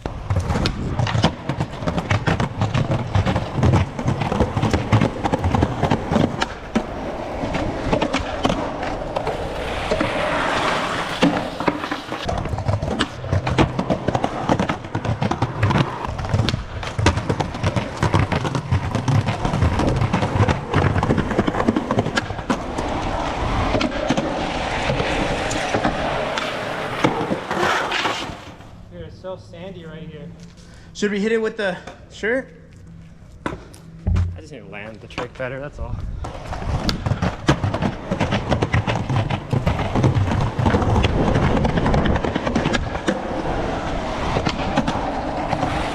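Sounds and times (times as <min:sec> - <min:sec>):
skateboard deck clacks and knocks: 0:00.0 - 0:28.6, 0:36.2 - 0:45.9
skateboard wheels rolling on concrete: 0:00.0 - 0:45.9.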